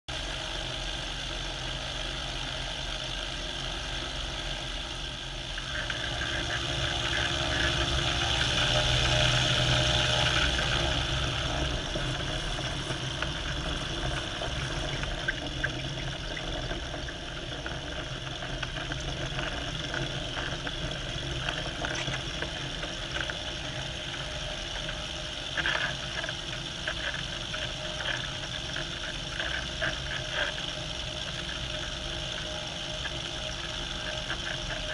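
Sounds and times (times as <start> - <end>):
aircraft engine droning: 0.1 - 34.9.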